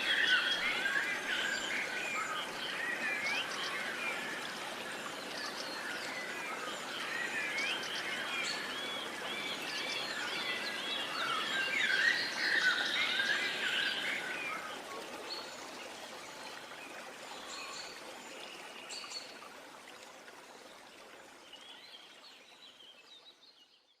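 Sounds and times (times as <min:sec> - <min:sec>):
running stream: 0:00.0 - 0:24.0.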